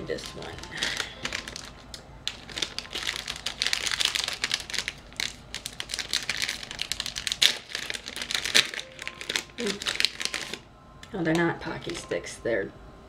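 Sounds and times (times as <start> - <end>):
plastic snack wrapper crinkling: 0.0 - 12.0.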